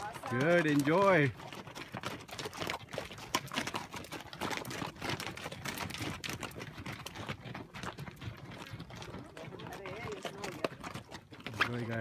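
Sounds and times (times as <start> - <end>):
mule hooves clopping on rocky trail: 0.0 - 12.0.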